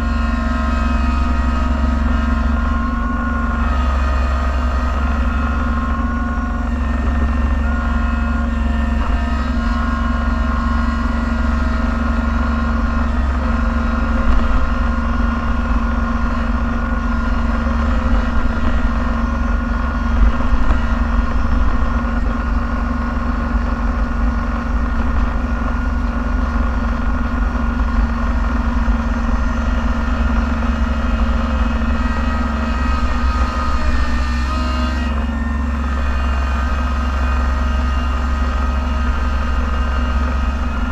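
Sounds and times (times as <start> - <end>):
snowplow engine drone in cab: 0.0 - 40.9.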